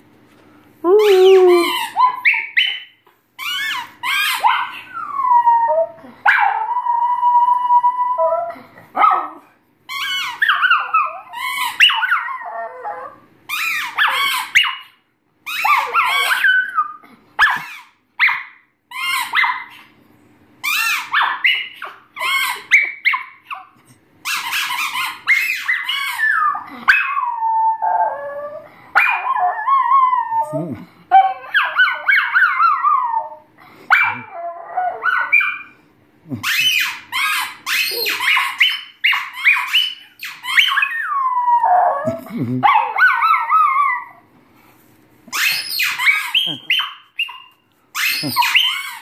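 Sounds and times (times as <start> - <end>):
dog howling and yipping: 0.9 - 14.9, 15.5 - 18.4, 20.7 - 35.7, 36.4 - 44.3, 45.3 - 49.0.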